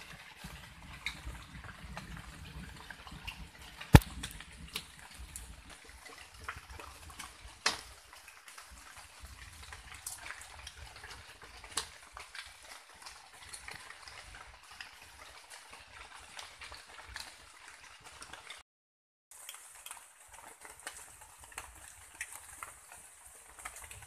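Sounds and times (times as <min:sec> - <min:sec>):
drizzle dripping on leaves: 0:00.1 - 0:18.6, 0:19.3 - 0:24.0.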